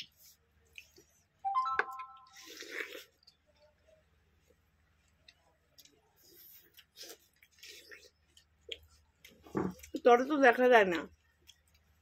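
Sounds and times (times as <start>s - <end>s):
chewing: 0.0s - 1.4s, 2.2s - 10.4s, 11.0s - 12.0s.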